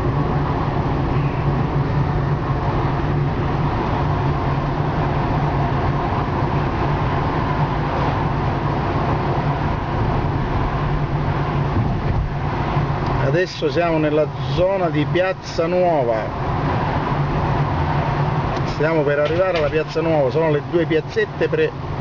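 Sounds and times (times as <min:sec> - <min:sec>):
car engine hum: 0:00.0 - 0:22.0
road noise: 0:00.0 - 0:22.0.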